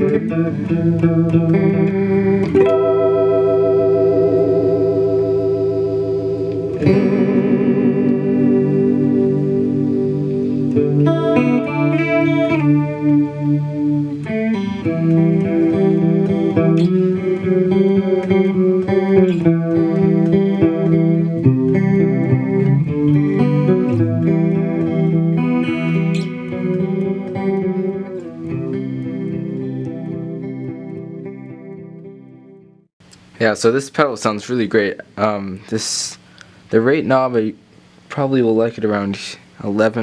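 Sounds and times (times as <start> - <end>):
electric guitar with chorus effect: 0.0 - 33.3.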